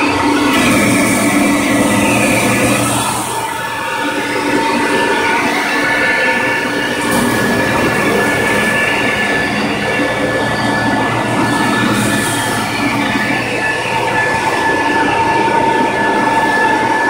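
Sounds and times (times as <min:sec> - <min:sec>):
floor scrubber vacuum whine: 0:00.0 - 0:17.0.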